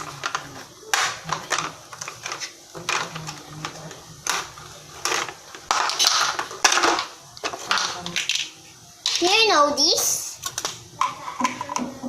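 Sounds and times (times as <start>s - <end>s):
plastic toy cars clacking and rattling: 0.0s - 9.5s, 10.4s - 12.0s.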